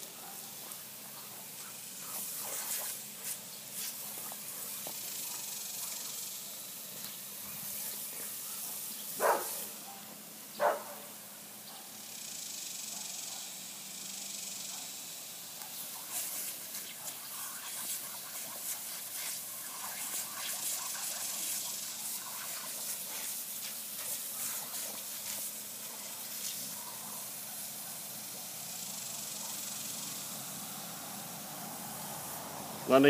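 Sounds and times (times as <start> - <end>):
water spraying from hose: 0.0 - 12.2, 13.6 - 33.0.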